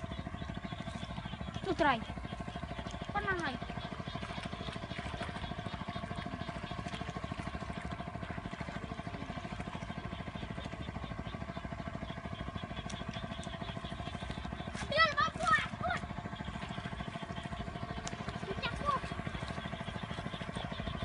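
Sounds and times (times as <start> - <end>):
small engine idling: 0.0 - 21.0.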